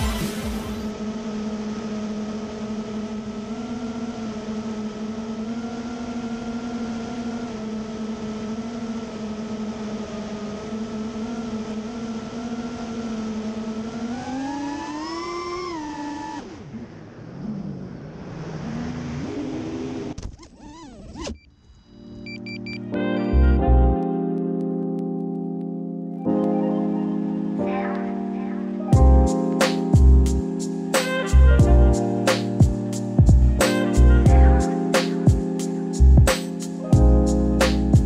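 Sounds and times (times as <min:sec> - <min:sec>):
drone motors and propellers humming: 0:00.0 - 0:24.0, 0:26.2 - 0:38.0.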